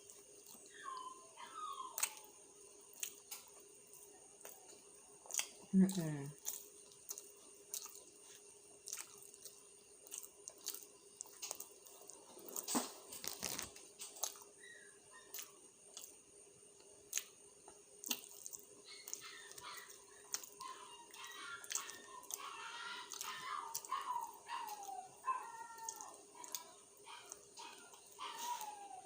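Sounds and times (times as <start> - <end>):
man chewing with wet mouth clicks: 2.9 - 14.5, 15.2 - 16.2, 16.8 - 28.2.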